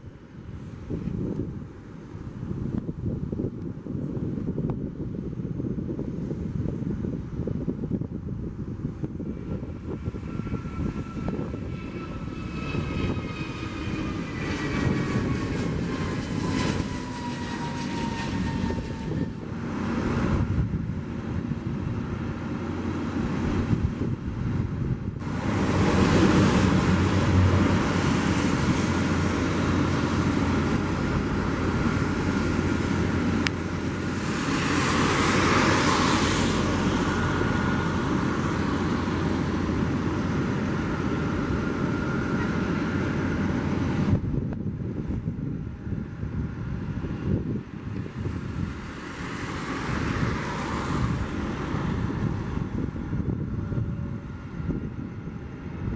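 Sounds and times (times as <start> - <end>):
jet engine roar and whine: 0.0 - 55.9
jet landing roar: 5.7 - 55.9.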